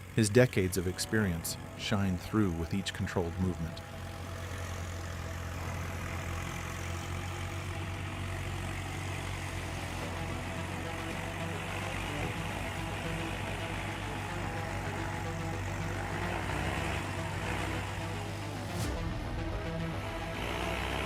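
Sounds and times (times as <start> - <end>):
heavy truck engine running: 0.0 - 21.0.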